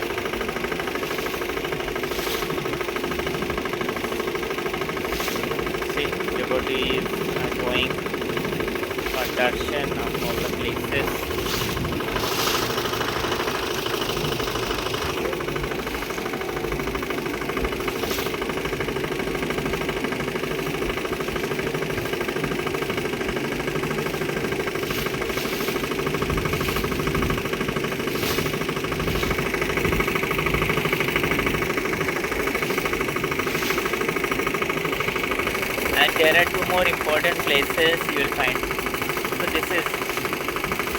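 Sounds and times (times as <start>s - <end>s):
motorboat engine running: 0.0s - 40.9s.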